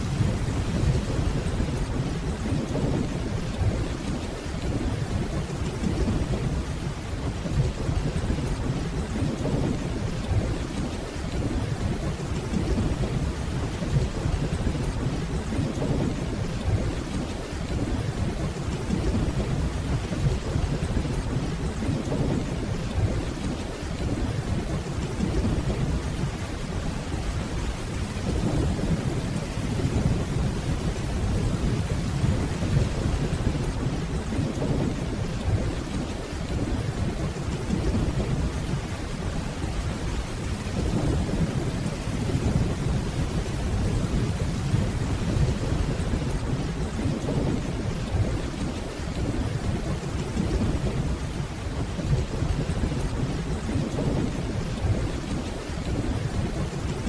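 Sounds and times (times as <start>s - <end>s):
distant rolling thunder: 0.0s - 57.0s
steady rainfall: 0.0s - 57.0s.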